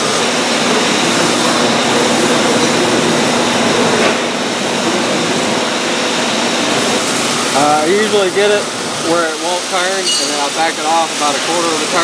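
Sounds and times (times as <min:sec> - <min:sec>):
machine running noise: 0:00.0 - 0:12.0.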